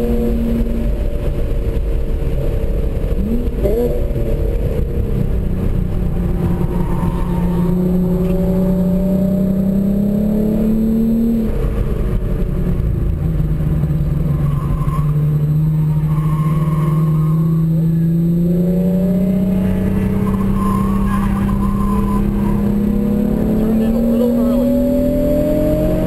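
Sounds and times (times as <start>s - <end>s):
car engine pulling hard: 0.0s - 26.0s.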